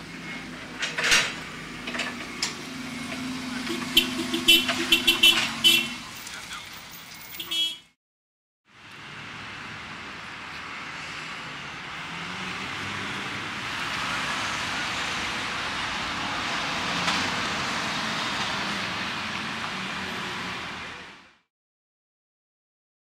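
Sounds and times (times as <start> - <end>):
cars driving past: 0.0 - 7.7, 8.7 - 21.5.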